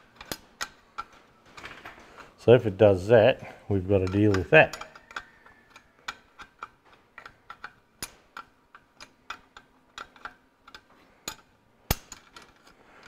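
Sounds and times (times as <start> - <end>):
metallic spanner clicks: 0.1 - 1.7, 4.0 - 12.8.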